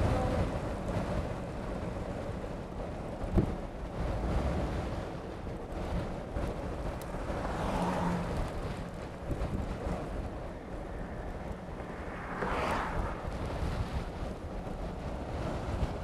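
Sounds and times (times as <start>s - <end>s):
wind gusting over microphone: 0.0s - 16.0s.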